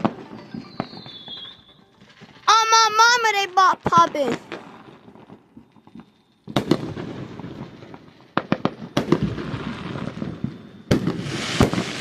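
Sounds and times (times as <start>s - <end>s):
fireworks banging: 0.0s - 12.0s
fireworks crackling: 0.0s - 12.0s.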